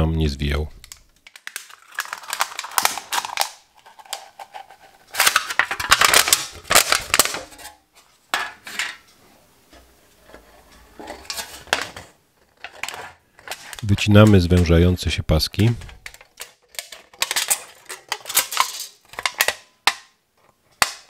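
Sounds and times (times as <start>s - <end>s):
aluminium sheet crinkling: 0.8s - 8.8s, 10.2s - 14.9s, 15.5s - 21.0s.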